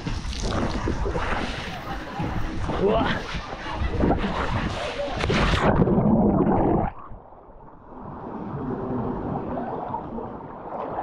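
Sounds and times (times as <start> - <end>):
muffled water noise: 0.0 - 11.0.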